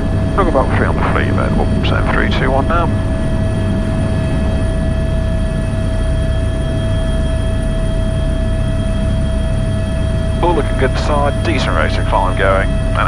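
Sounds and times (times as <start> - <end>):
helicopter turbine whine: 0.0 - 13.0
low rotor drone: 0.0 - 13.0.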